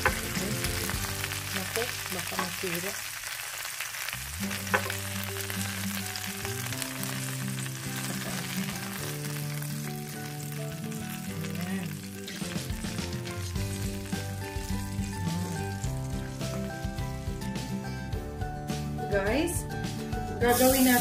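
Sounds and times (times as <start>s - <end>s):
background music: 0.0s - 2.9s, 4.2s - 21.0s
chicken sizzling in a grill pan: 0.0s - 17.3s, 20.4s - 21.0s.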